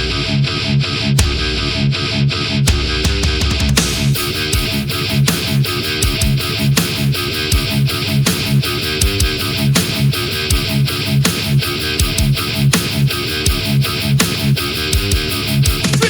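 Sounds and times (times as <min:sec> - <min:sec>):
instrumental rock music: 0:00.5 - 0:16.0.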